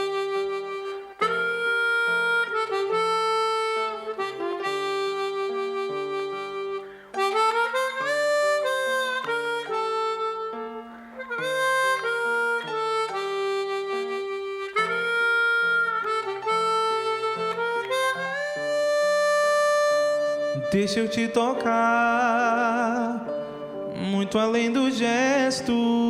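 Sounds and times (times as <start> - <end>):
reedy lead melody: 0.0 - 26.0.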